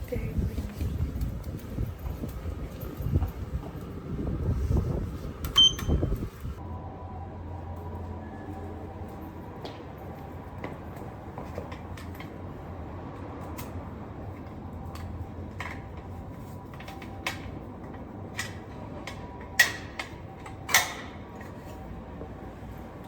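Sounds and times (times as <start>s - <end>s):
bicycle rattling and creaking: 0.0s - 6.6s, 8.4s - 23.0s.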